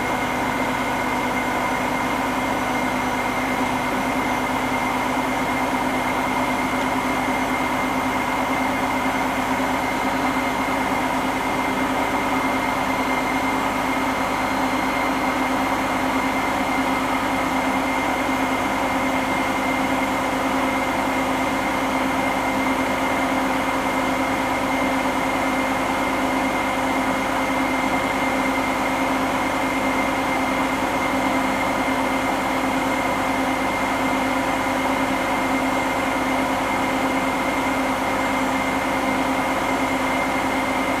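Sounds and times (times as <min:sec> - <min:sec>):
washing machine spinning whine: 0:00.0 - 0:41.0.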